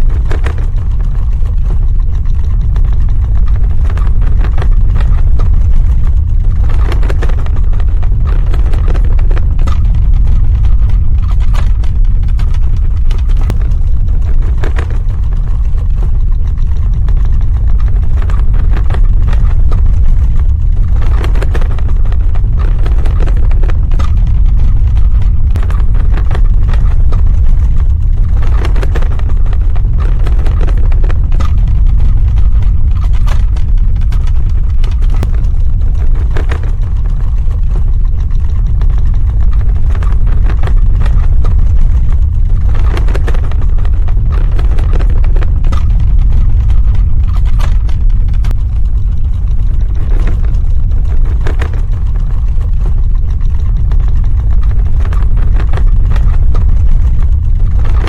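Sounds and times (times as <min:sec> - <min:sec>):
cracks and rattles: 0:00.0 - 0:58.0
deep earthquake rumble: 0:00.0 - 0:58.0.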